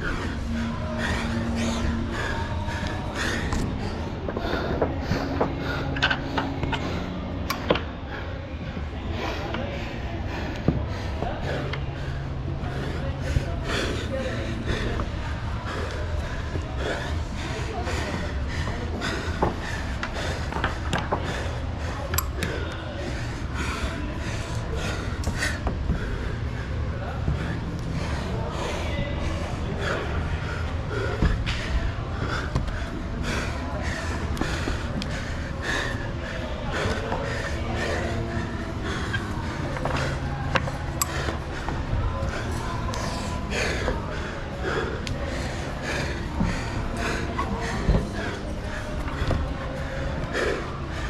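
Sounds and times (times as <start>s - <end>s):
person breathing hard: 0.0s - 51.0s
steady low hum: 0.0s - 51.0s.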